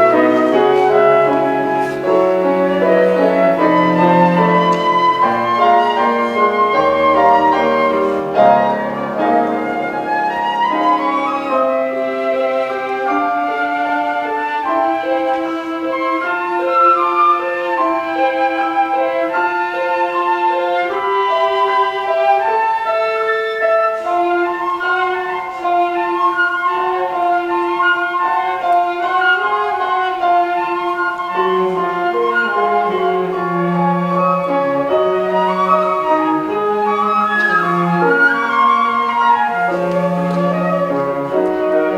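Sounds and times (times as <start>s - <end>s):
cello: 0.0s - 41.9s
flute playing held notes: 0.0s - 41.9s
piano: 0.0s - 41.9s.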